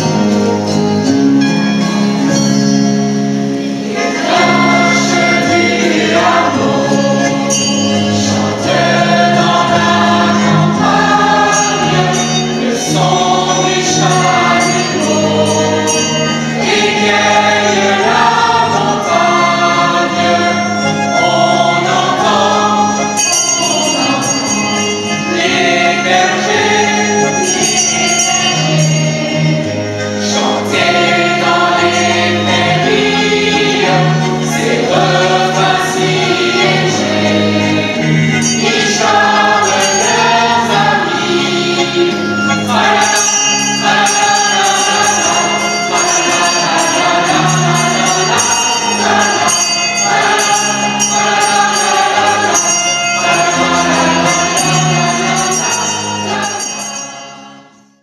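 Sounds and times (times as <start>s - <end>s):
choir singing christmas song: 0.0s - 58.0s.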